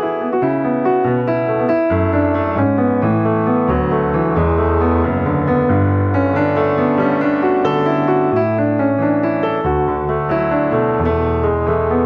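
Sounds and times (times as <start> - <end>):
piano chords with bass line: 0.0 - 12.0.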